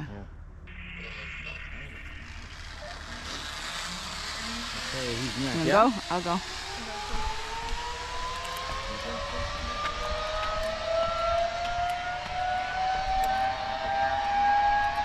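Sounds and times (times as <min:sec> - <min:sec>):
zipline pulleys whining on cable: 0:00.7 - 0:15.0.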